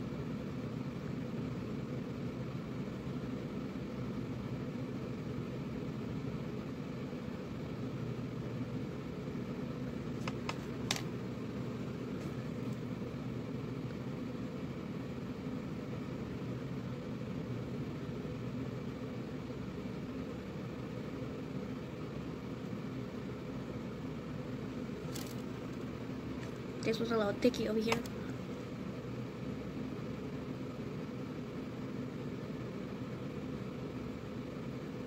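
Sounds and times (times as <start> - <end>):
fan-like room hum: 0.0 - 35.0.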